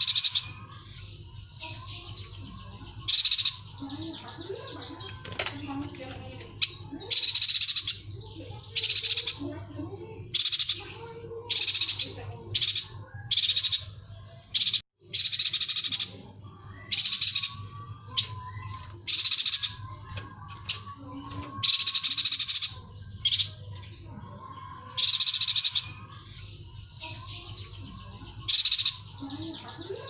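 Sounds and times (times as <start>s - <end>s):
bird singing buzzy trills: 0.0s - 30.0s.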